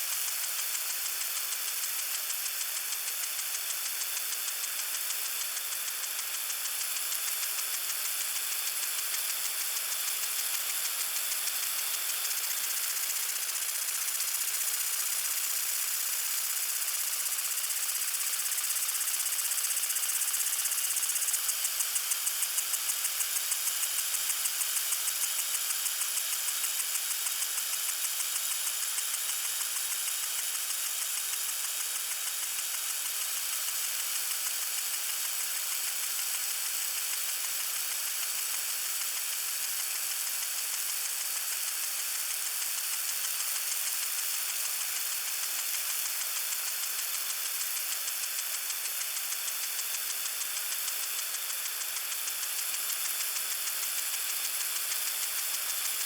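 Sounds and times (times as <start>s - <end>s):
water sprinkler spraying: 0.0s - 56.0s.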